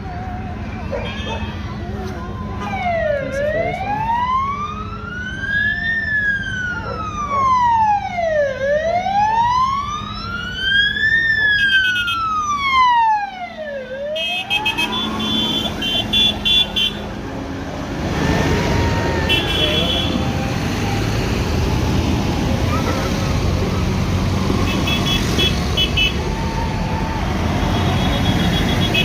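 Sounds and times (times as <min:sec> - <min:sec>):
police siren wailing: 0:00.0 - 0:29.0
vehicle engines and road noise: 0:00.0 - 0:29.0.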